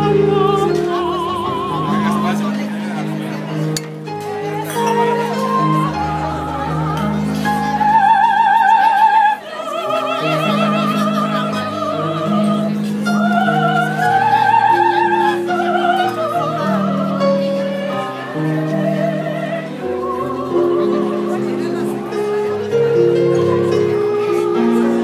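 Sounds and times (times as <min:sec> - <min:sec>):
soprano singing operatic aria: 0:00.0 - 0:03.2, 0:04.0 - 0:25.0
sustained accompaniment chords: 0:00.0 - 0:25.0.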